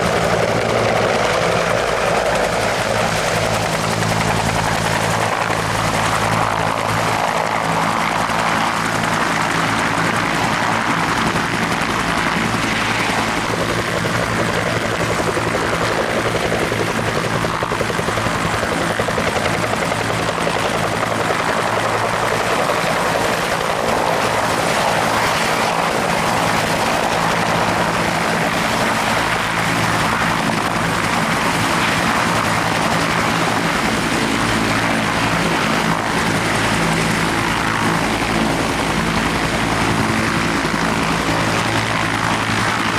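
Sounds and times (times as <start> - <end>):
helicopter rotor and turbine drone: 0.0 - 42.9.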